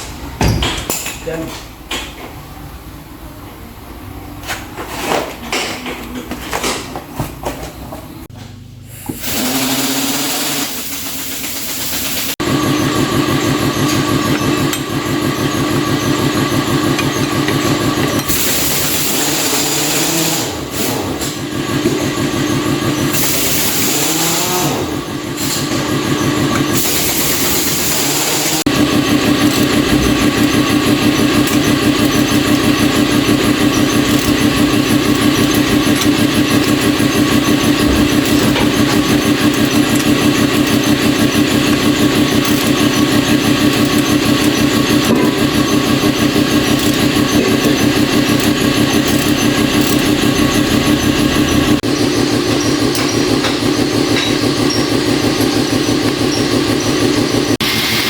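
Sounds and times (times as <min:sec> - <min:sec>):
engine running with fast pulse: 0:09.4 - 0:58.0.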